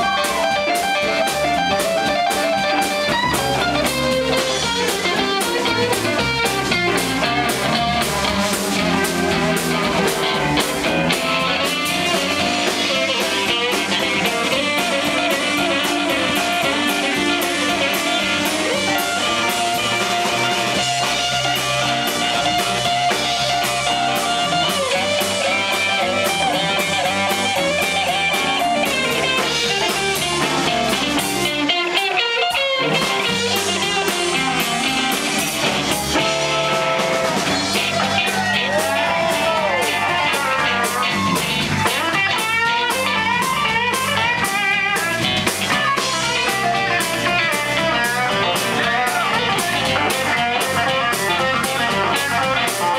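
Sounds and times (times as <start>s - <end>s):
bass guitar: 0.0s - 52.9s
drum kit: 0.0s - 52.9s
electric guitar solo: 0.0s - 52.9s.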